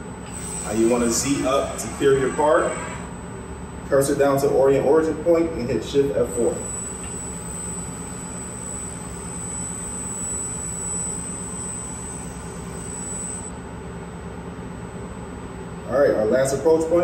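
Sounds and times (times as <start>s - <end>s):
robot arm servo hum and whine: 0.0s - 17.0s.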